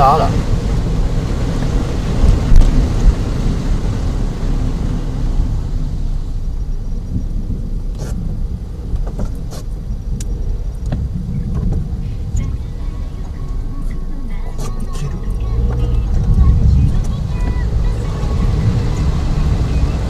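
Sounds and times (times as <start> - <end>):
rushing water and rain: 0.0 - 20.0.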